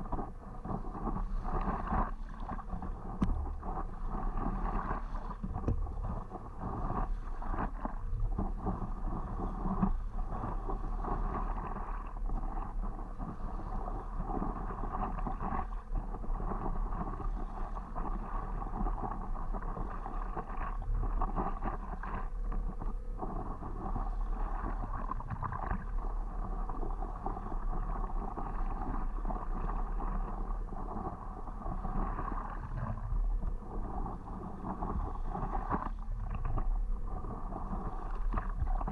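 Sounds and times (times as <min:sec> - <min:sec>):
paddle dipping and pulling: 0:00.0 - 0:38.9
water splashing and lapping: 0:00.0 - 0:38.9
wind rumble on microphone: 0:00.0 - 0:38.9.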